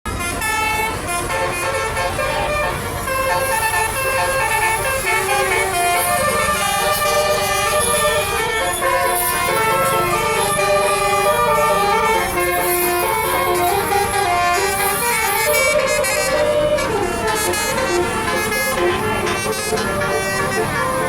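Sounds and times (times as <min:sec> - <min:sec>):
multi-tone bus horn melody: 0:00.1 - 0:21.0.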